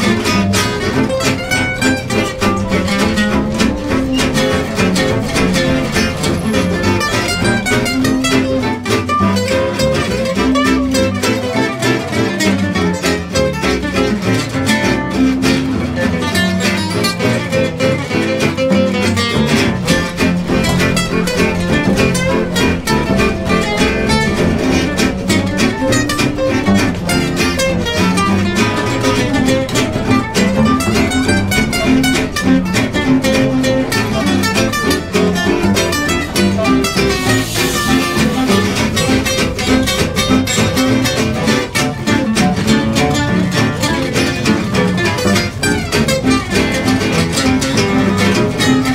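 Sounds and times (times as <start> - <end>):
acoustic guitars strumming: 0.0 - 48.9
clarinet: 0.0 - 48.9
double bass: 0.0 - 48.9.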